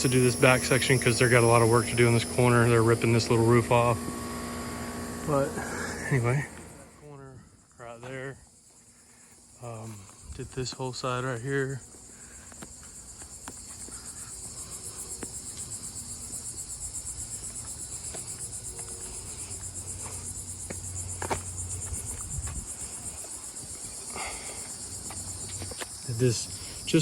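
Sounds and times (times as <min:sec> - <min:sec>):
insects buzzing in pulses: 0:00.0 - 0:27.0.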